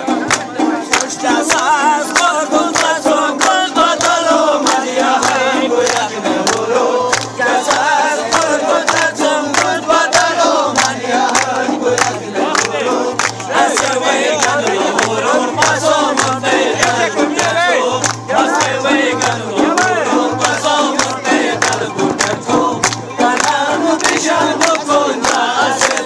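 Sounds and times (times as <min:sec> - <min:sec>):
men singing and shouting: 0:00.0 - 0:26.0
quick drumbeat: 0:00.0 - 0:26.0.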